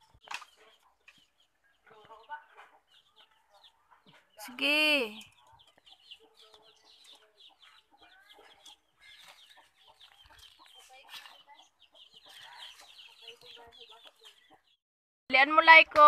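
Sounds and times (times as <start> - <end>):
chickens clucking: 0.0 - 14.8.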